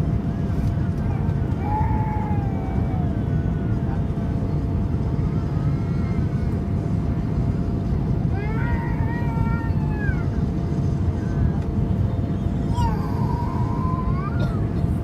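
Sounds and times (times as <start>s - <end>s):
airliner cabin rumble: 0.0s - 15.0s
faint hum: 0.0s - 15.0s.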